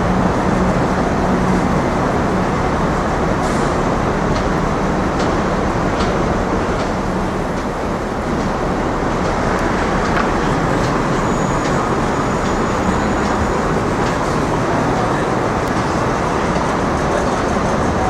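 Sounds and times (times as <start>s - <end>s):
passing vehicles rumbling: 0.0s - 18.0s.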